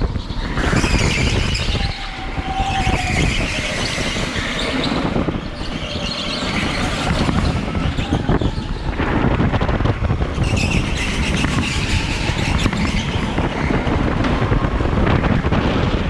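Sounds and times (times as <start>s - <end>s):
go-kart chassis rumbling and rattling: 0.0s - 16.0s.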